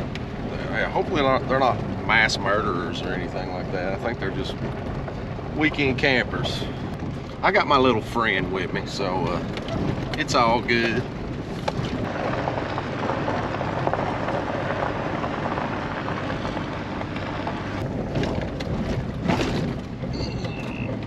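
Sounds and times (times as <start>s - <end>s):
pickup truck engine and tyres: 0.0s - 21.0s.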